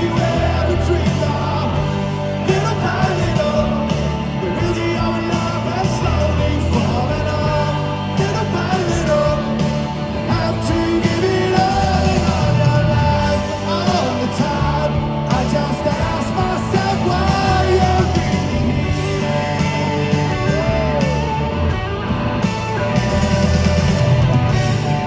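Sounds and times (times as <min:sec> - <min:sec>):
person singing lead vocal: 0:00.0 - 0:21.8
live rock band playing: 0:00.0 - 0:25.0.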